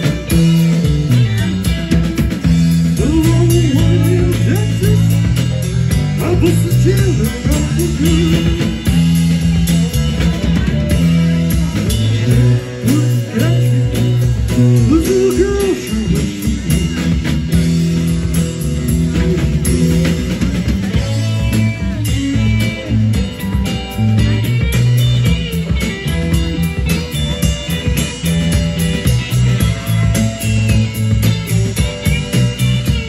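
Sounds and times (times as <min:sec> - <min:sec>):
bass notes: 0:00.0 - 0:33.0
drum kit beat: 0:00.0 - 0:33.0
electric guitar lead: 0:00.0 - 0:33.0.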